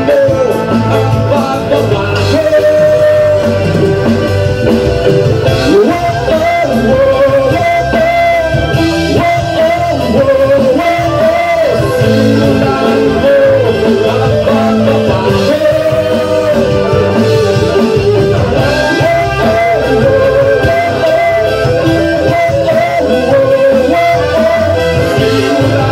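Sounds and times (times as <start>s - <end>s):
live reggae band playing: 0.0s - 25.9s
man singing into microphone: 0.0s - 25.9s.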